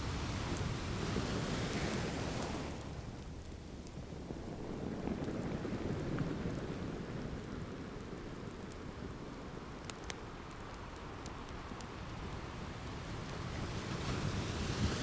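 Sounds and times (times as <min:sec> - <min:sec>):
log fire popping and crackling: 0:00.6 - 0:13.4.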